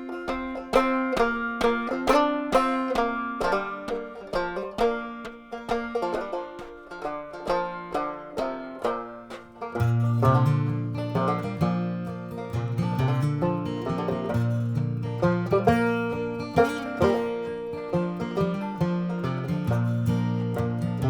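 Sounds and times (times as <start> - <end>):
plucked string instrumental music: 0.0 - 21.0.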